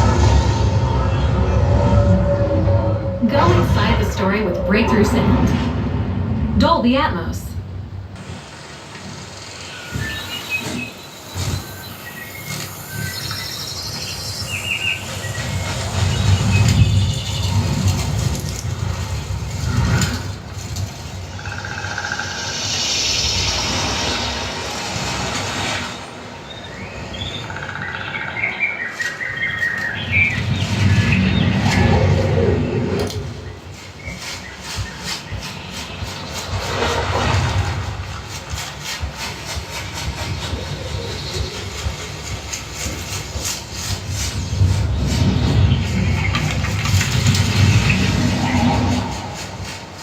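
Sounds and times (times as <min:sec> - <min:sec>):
deep bass rumble: 0:00.0 - 0:08.3, 0:13.7 - 0:25.7, 0:30.0 - 0:49.9
hissing whoosh: 0:00.0 - 0:27.2, 0:29.2 - 0:50.0.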